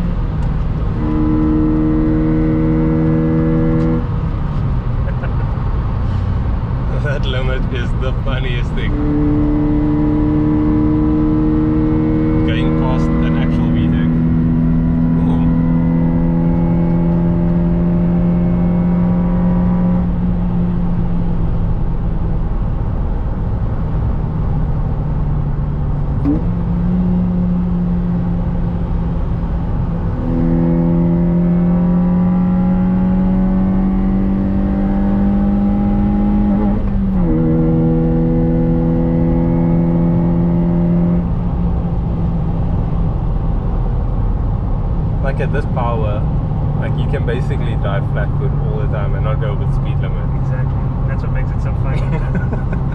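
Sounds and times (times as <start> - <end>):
car engine accelerating: 0.0 - 52.9.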